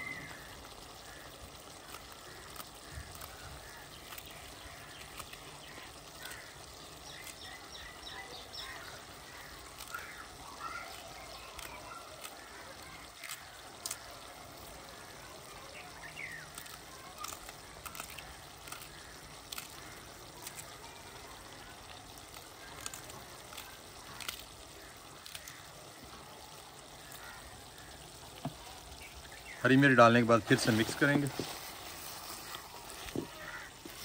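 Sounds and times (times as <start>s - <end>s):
meat sizzling with crackles: 0.0s - 34.0s.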